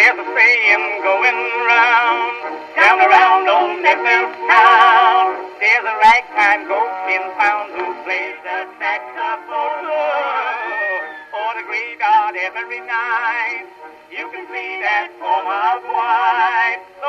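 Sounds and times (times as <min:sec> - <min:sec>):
old-time song with vibrato singer: 0:00.0 - 0:17.0.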